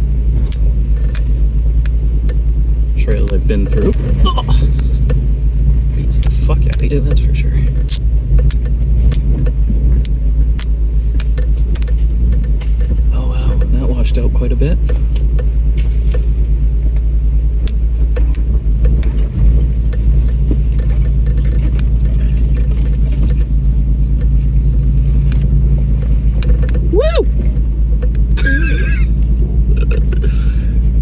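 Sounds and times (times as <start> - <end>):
body and suspension rattles: 0.0 - 31.0
truck engine running: 0.0 - 31.0.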